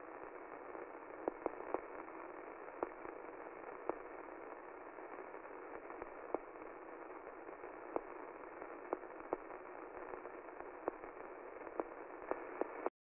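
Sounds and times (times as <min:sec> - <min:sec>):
faint static hiss: 0:00.0 - 0:12.9.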